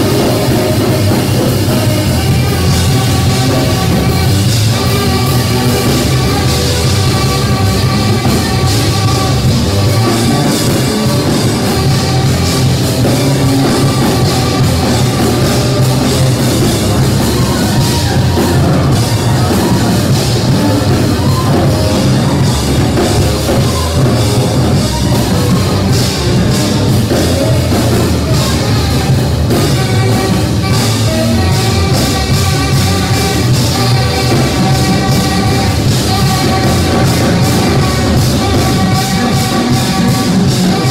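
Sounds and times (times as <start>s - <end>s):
drum kit: 0.0s - 40.9s
tenor saxophone: 0.0s - 40.9s.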